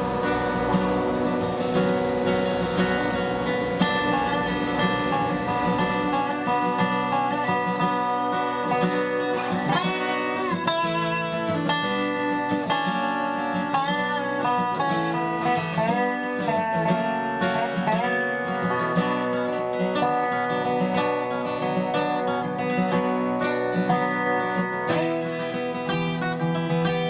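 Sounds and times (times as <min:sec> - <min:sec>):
bluegrass accompaniment: 0:00.0 - 0:27.0
slide resonator guitar: 0:00.0 - 0:27.0.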